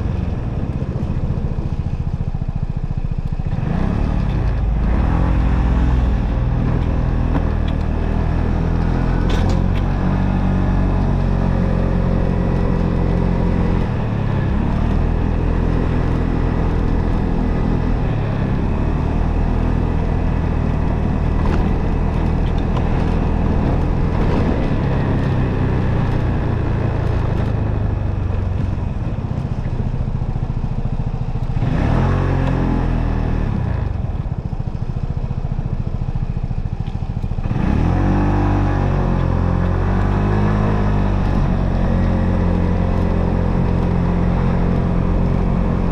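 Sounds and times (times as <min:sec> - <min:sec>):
wind noise: 0:00.0 - 0:34.7, 0:37.0 - 0:45.9
motorcycle engine running: 0:00.0 - 0:45.9
road noise: 0:00.0 - 0:45.9.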